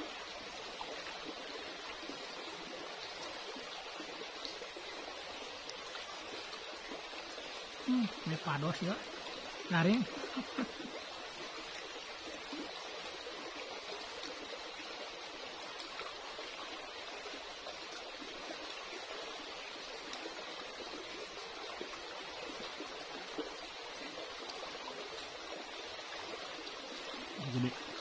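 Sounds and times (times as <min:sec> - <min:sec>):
stream water trickling: 0:00.0 - 0:28.0.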